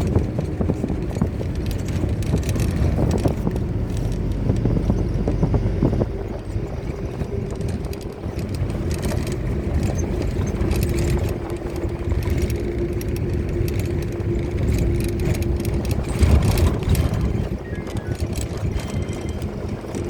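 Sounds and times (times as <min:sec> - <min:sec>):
rattling: 0:00.0 - 0:20.0
vehicle engine drone: 0:00.0 - 0:20.0.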